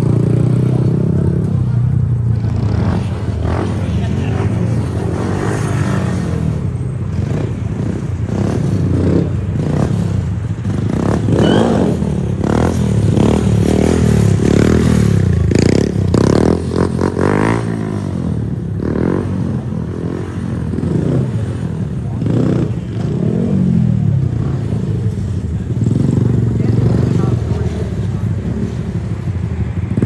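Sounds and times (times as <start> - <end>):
small motorbike engines revving: 0.0 - 30.0.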